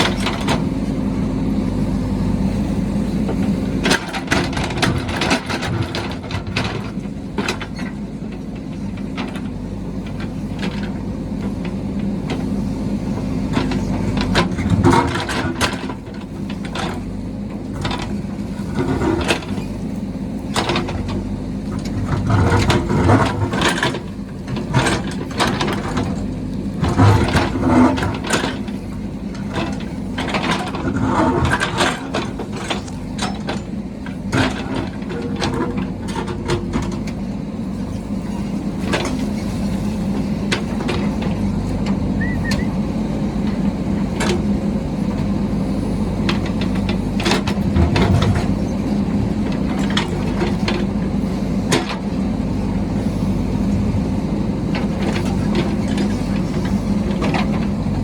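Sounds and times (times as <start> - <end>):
construction machine engine running: 0.0 - 58.0.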